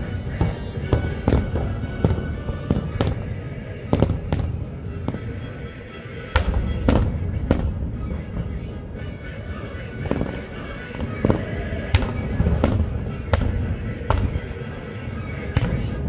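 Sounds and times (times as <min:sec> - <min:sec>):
continuous low rumble: 0:00.0 - 0:16.0
fireworks booming and cracking: 0:00.0 - 0:16.0
music playing: 0:00.0 - 0:16.0.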